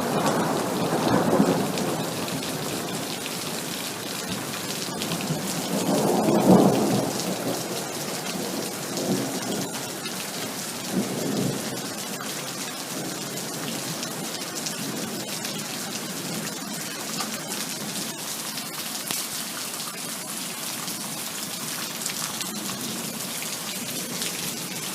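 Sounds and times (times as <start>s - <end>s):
heavy rain: 0.0s - 24.9s.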